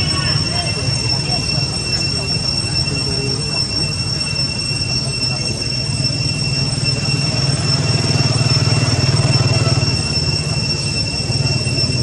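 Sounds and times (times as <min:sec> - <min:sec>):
high-pitched cicada drone: 0:00.0 - 0:12.0.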